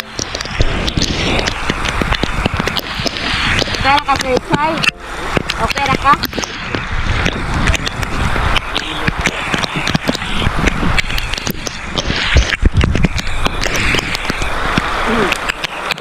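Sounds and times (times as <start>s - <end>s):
rain pattering on umbrella: 0.0s - 16.0s
wind rumble on microphone: 0.0s - 16.0s.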